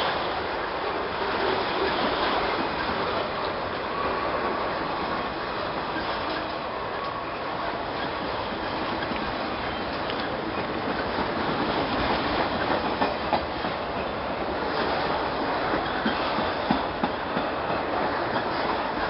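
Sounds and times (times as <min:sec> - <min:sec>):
train wheels rumbling on rails: 0:00.0 - 0:19.0
wheels clacking on rail joints: 0:01.2 - 0:19.0.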